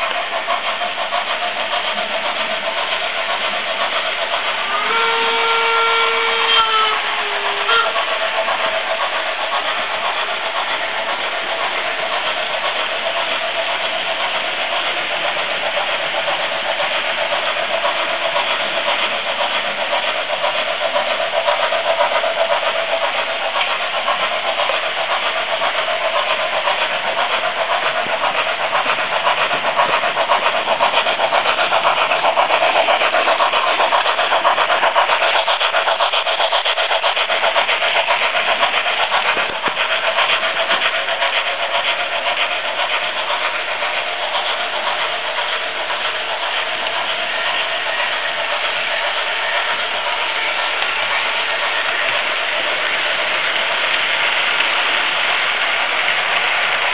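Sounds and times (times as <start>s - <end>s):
fast rail clatter: 0.0s - 56.9s.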